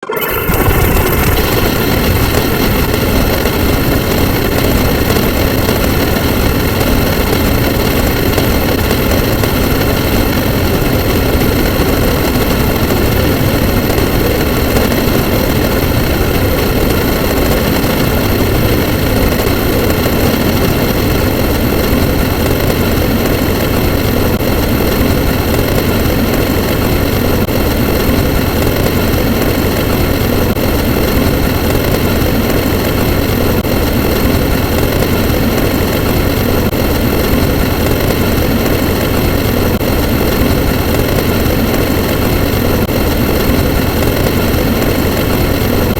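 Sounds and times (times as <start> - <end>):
constant whining tones: 0.0 - 45.9
loud engine drone: 0.0 - 45.9.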